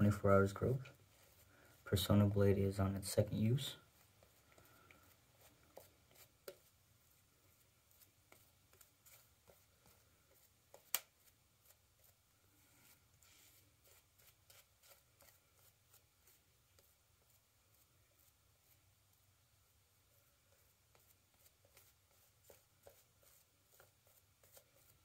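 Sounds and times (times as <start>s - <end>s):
shaving brush scratching on skin: 0.2s - 12.2s, 12.8s - 18.8s, 20.4s - 25.0s.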